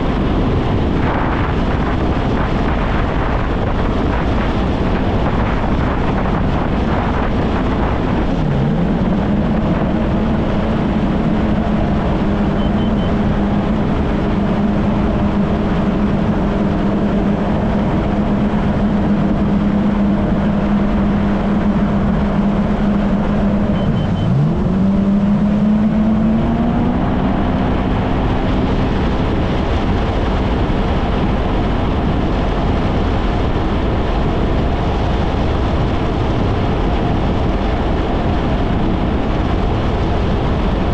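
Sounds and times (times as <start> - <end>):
jet ski engine running: 0.0 - 40.9
wind and water rushing: 0.0 - 40.9.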